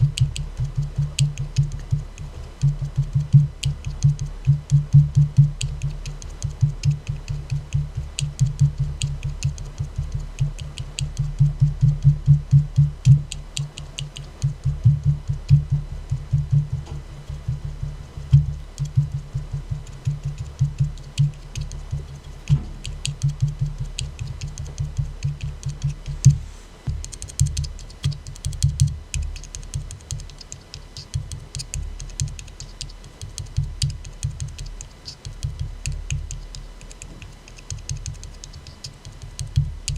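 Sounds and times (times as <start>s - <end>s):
fingers tapping on a soda can: 0.0s - 16.9s, 18.3s - 39.9s.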